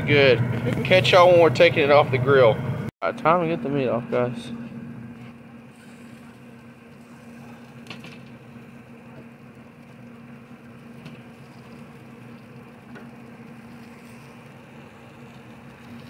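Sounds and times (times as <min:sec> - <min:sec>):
grill smoker humming: 0:00.0 - 0:16.0.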